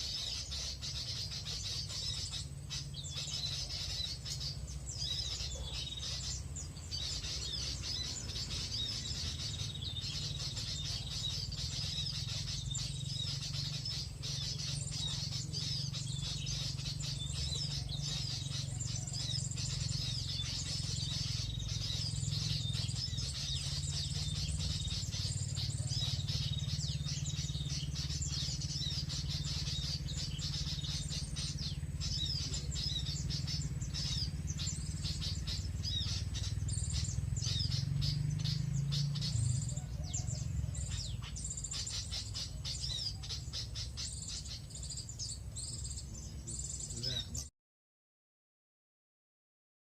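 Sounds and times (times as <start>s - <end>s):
steady low rumble: 0.0s - 46.9s
small birds trilling: 0.0s - 47.5s.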